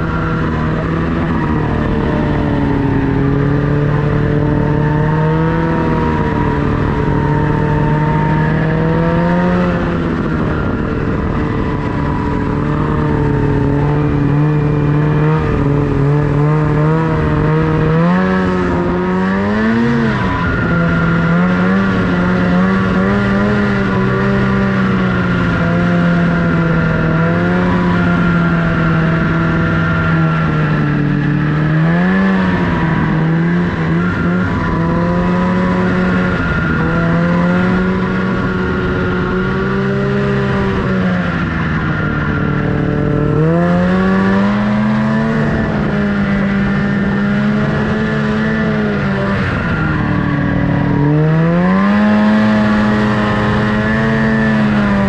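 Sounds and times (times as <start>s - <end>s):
snowmobile engine revving: 0.0s - 55.0s.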